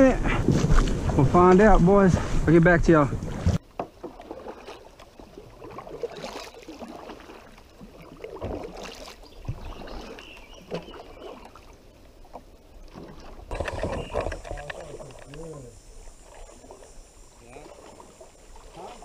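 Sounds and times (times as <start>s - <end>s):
water sloshing against kayak hull: 3.0s - 19.0s.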